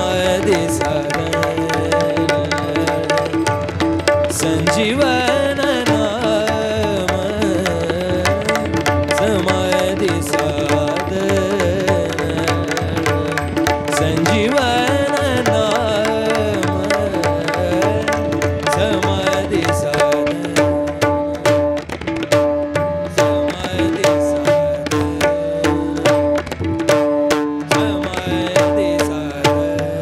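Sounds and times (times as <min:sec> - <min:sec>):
hand drum beating: 0:00.0 - 0:30.0.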